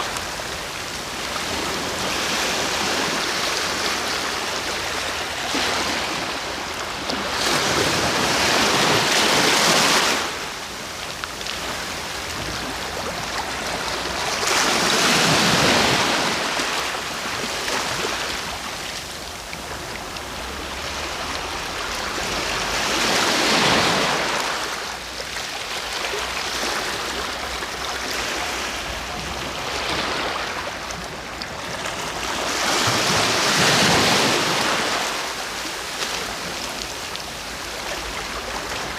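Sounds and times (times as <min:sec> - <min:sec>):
sea waves breaking: 0:00.0 - 0:38.9.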